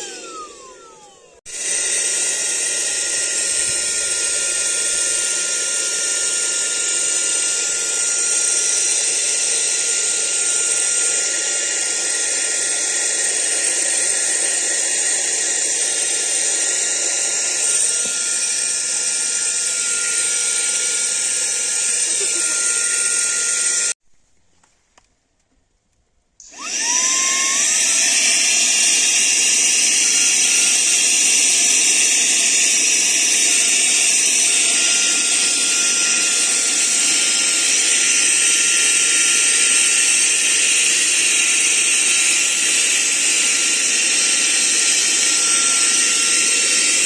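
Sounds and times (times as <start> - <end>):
vacuum cleaner motor whine: 0.0 - 24.0, 26.4 - 47.0.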